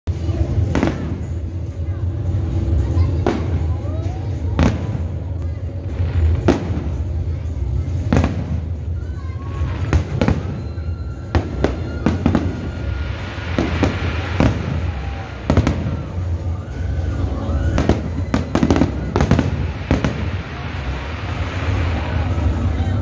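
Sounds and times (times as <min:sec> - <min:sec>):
steady low rumble: 0:00.1 - 0:23.0.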